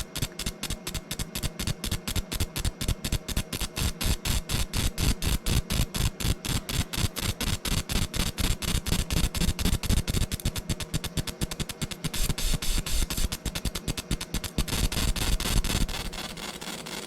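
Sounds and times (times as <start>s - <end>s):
machine pulsing over a steady hum: 0.0s - 17.0s.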